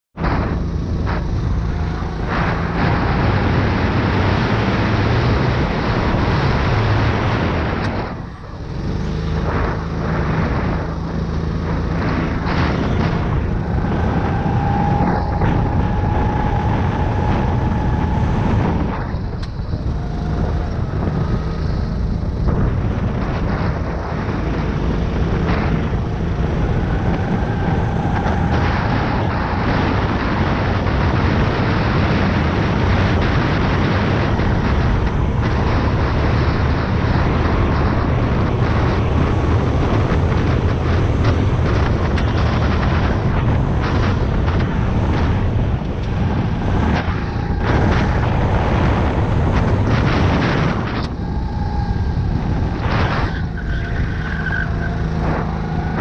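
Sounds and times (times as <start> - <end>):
rushing wind noise: 0.1 - 56.0
go-kart engine running hard: 0.2 - 56.0.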